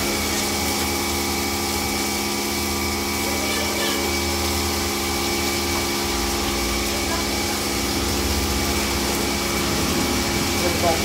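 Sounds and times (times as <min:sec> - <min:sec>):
kitchen range machine hum: 0:00.0 - 0:11.0
meat sizzling in frying oil: 0:00.0 - 0:11.0.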